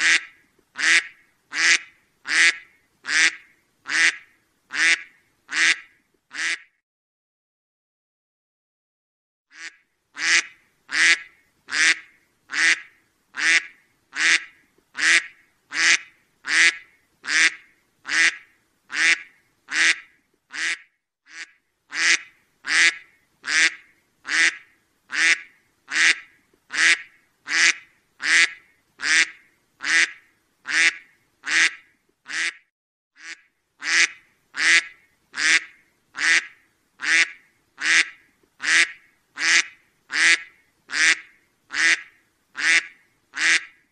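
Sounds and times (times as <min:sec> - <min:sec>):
duck quacking: 0:00.0 - 0:06.7, 0:09.5 - 0:43.8.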